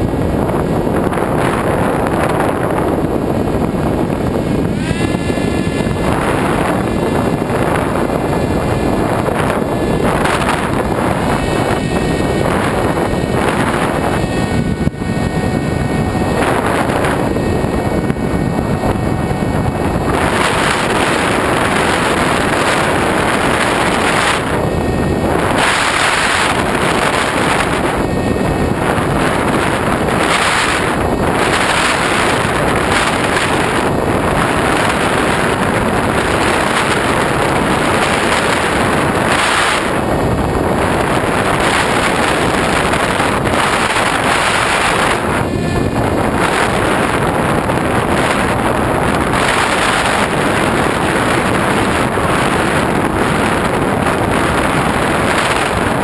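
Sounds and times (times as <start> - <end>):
motor whine: 0.0 - 56.0
wind rushing over microphone: 0.0 - 56.0.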